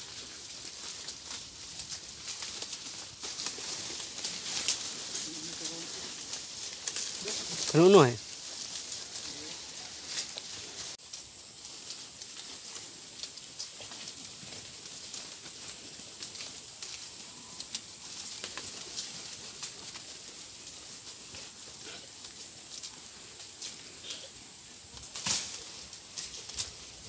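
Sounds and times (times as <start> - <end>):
brush rustling and crackling: 0.0 - 27.0.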